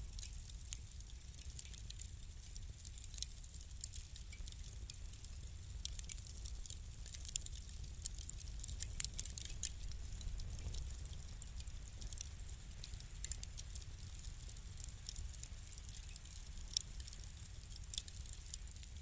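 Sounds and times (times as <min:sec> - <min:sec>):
low steady rumble: 0:00.0 - 0:19.0
wood fire crackling and popping: 0:00.0 - 0:19.0.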